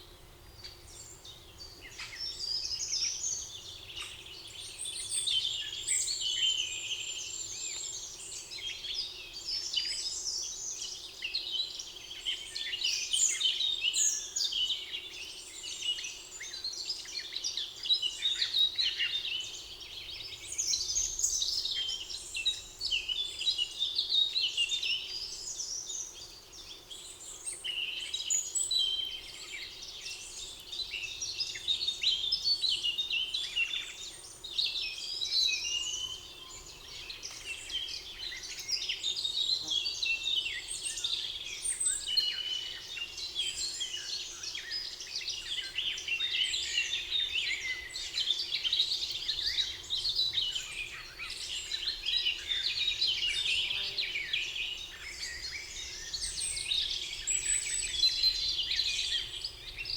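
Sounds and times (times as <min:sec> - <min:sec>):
songbirds chorus: 0:00.0 - 0:59.9.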